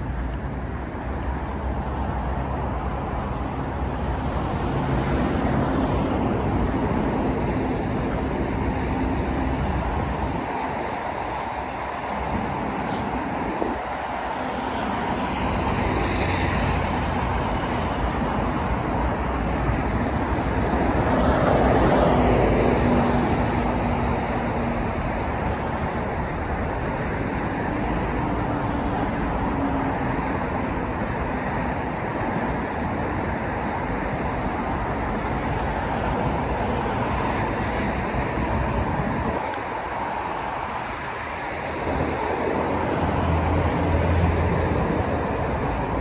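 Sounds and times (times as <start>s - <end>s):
busy road traffic: 0.0s - 46.0s
vehicles passing: 0.0s - 46.0s.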